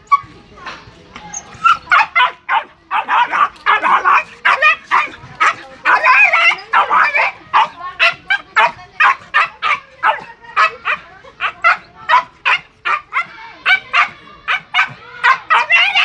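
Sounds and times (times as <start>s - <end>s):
dog barking: 1.6s - 16.0s.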